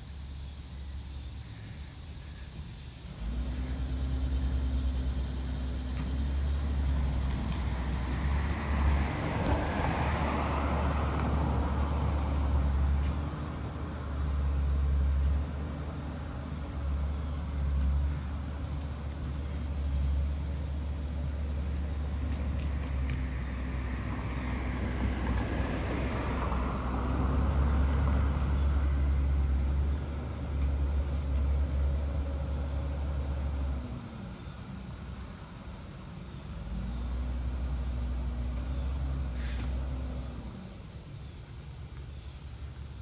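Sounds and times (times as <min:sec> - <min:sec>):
diesel engine rumbling: 0:00.0 - 0:43.0
road noise: 0:00.0 - 0:43.0.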